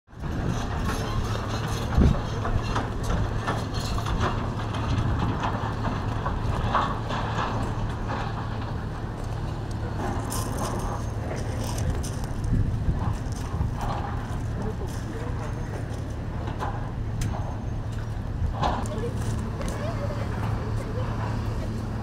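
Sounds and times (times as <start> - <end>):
low machinery hum: 0.1 - 22.0
rumbling noise: 0.1 - 22.0.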